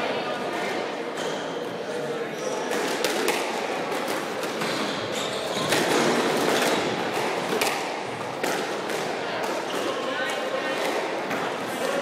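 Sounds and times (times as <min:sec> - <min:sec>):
squash ball smacking rackets and walls: 0:02.4 - 0:12.0.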